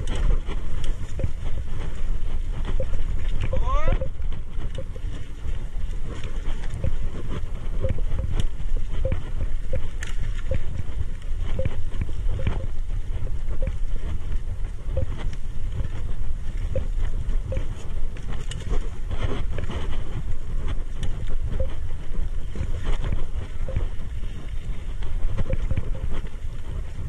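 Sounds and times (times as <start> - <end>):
bike clicks and rattles: 0.0 - 27.0
wind on microphone: 0.0 - 27.0.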